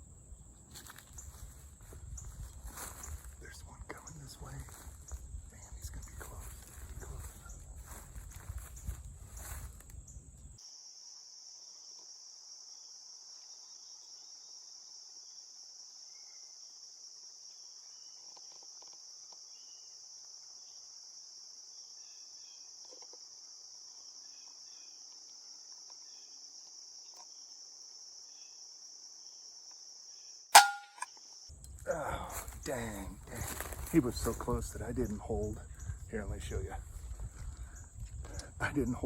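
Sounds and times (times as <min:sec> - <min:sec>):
shrill insect chorus: 0:00.6 - 0:38.1.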